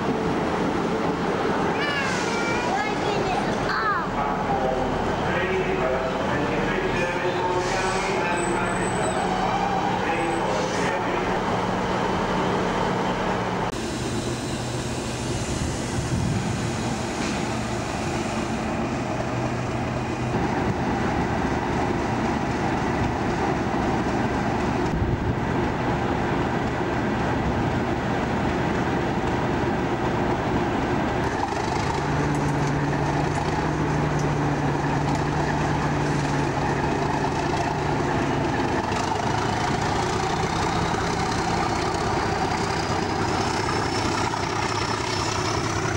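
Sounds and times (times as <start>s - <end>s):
diesel locomotive idling: 0.0s - 45.9s
diesel trains running: 0.0s - 45.9s.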